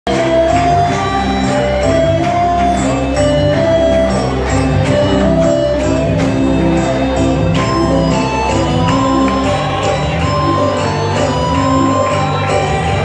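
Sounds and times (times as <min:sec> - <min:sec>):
bass line: 0:00.1 - 0:13.0
held melody: 0:00.1 - 0:13.0
live band playing a hymn: 0:00.1 - 0:13.0
steady percussion beat: 0:00.1 - 0:13.0.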